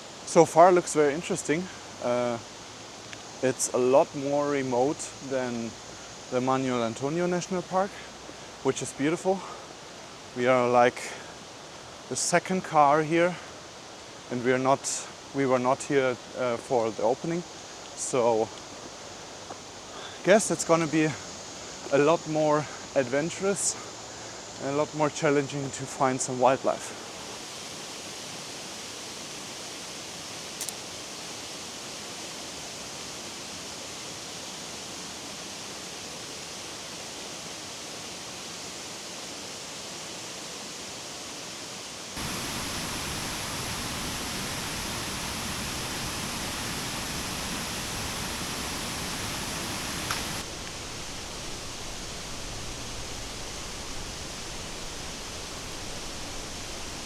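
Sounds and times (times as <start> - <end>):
rainforest ambience hiss: 0.0 - 57.0.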